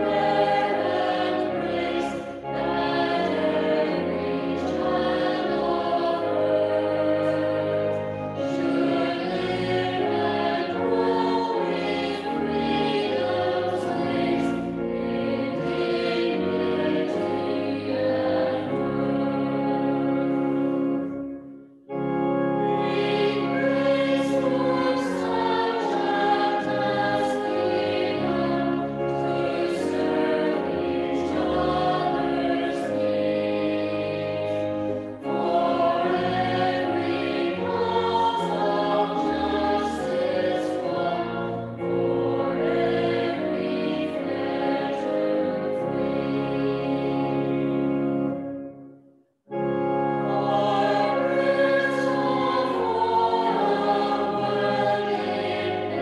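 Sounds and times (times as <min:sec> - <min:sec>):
choir singing a hymn: 0:00.0 - 0:48.8, 0:49.5 - 0:56.0.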